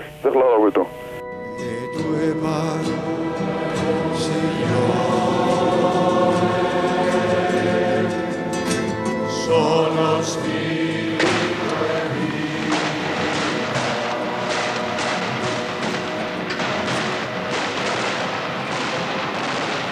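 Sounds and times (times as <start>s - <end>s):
choir singing: 1.6s - 19.9s.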